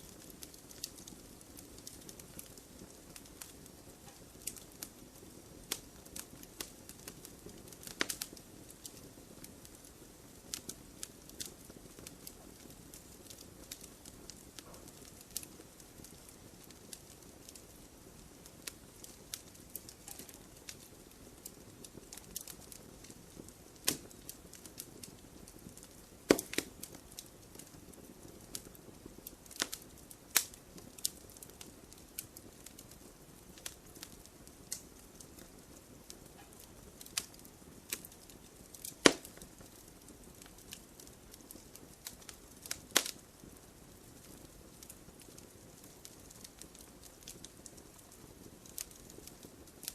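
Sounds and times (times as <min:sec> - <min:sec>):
campfire crackling and popping: 0:00.0 - 0:49.9
soft low fire hiss: 0:00.0 - 0:49.9.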